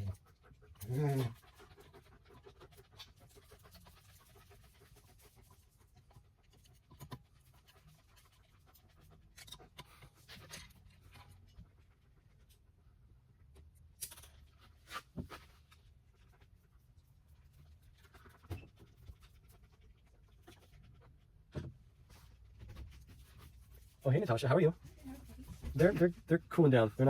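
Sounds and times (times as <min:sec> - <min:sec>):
faint clicks and scratches: 0:00.0 - 0:27.0.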